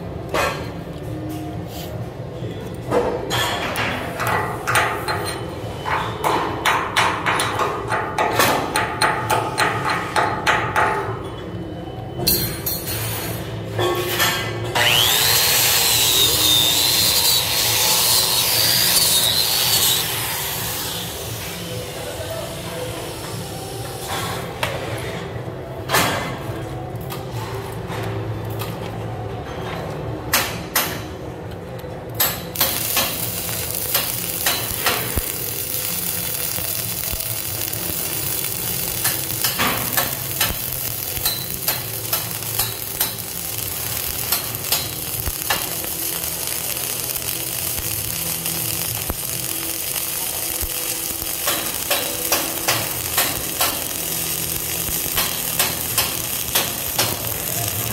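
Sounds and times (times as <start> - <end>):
welding arc crackling sizzle: 0.0 - 11.4, 12.2 - 29.0, 30.3 - 57.9.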